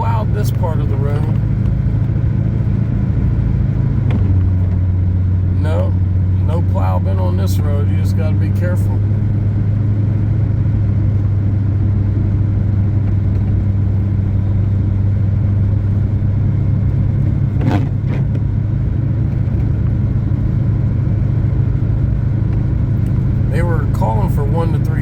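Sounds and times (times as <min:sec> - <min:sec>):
car engine and tyres droning: 0:00.0 - 0:25.0.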